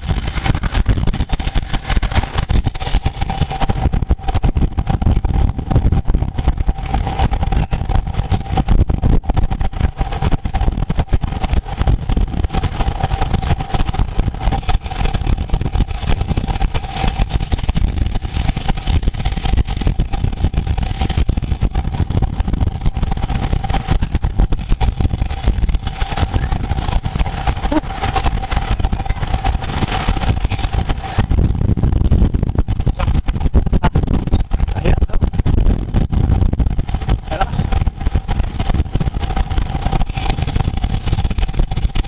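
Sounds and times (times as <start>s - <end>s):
steady thin whine: 0.0s - 42.0s
wind rushing over microphone: 0.0s - 42.0s.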